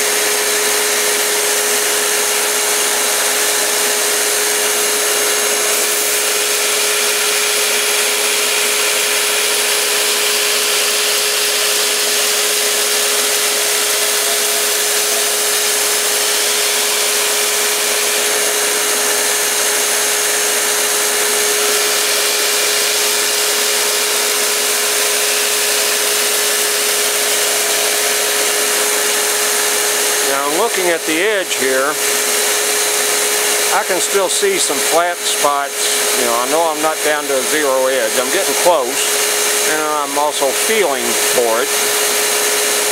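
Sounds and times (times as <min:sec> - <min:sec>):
belt grinder humming: 0:00.0 - 0:42.9.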